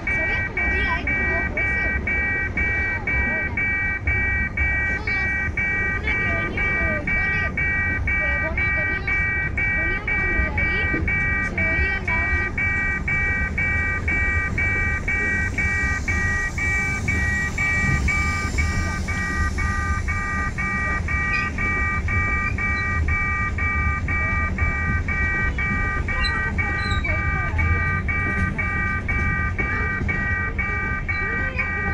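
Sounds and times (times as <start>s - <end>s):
freight wagons rumbling on rails: 0.0s - 31.9s
level crossing bell beeping: 0.0s - 31.9s.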